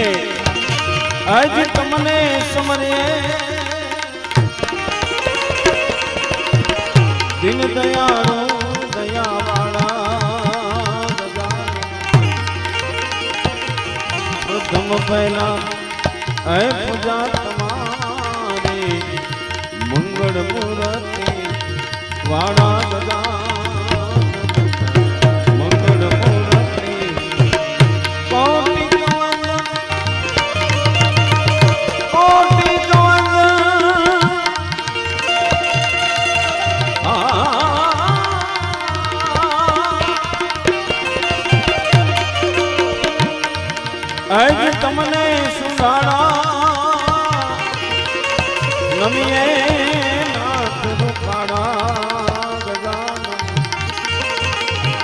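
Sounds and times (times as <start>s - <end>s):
harmonium: 0.0s - 55.0s
man singing: 0.0s - 55.0s
tabla drumming: 0.0s - 55.0s.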